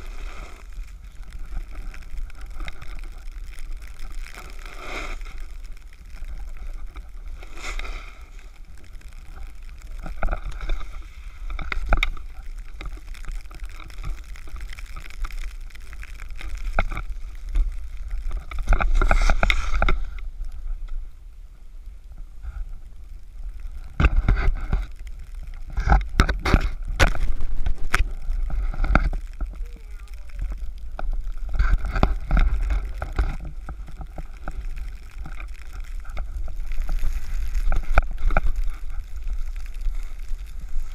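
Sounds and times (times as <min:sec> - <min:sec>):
snowboard scraping over snow: 0:00.0 - 0:20.9, 0:22.2 - 0:40.9
wind rumble on microphone: 0:00.0 - 0:40.9.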